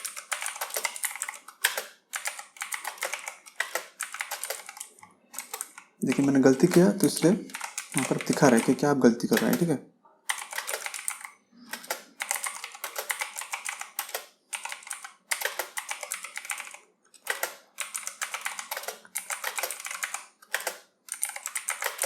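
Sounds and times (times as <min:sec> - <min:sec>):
fast typing on keyboard: 0:00.0 - 0:09.7, 0:10.3 - 0:22.0.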